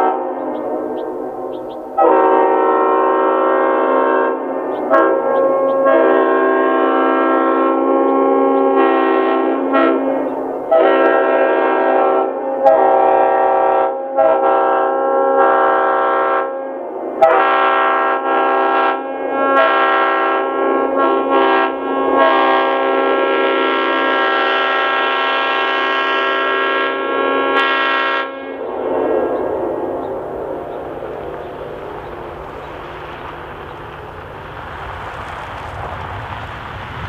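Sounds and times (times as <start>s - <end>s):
air horn chord blasts: 0.0s - 16.6s, 17.2s - 30.8s.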